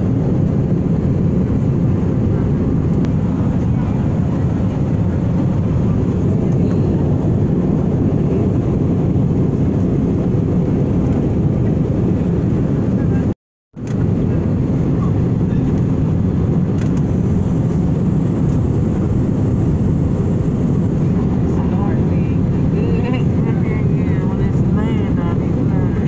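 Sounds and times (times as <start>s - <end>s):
jet engine cabin rumble: 0.0s - 26.0s.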